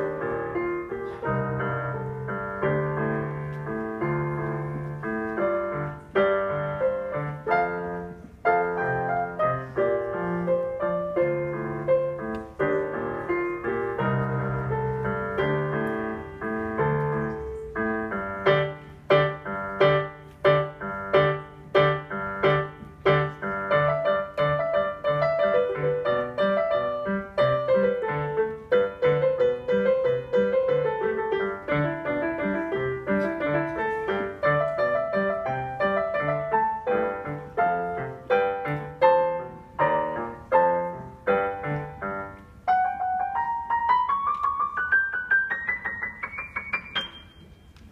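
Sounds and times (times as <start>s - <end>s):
solo piano piece: 0.0s - 47.9s.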